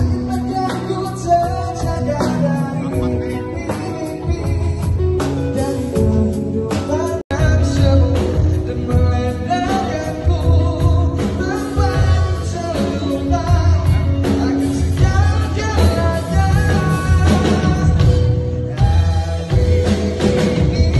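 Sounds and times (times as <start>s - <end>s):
man singing lead vocal: 0.0s - 20.9s
pop-rock band playing: 0.0s - 20.9s.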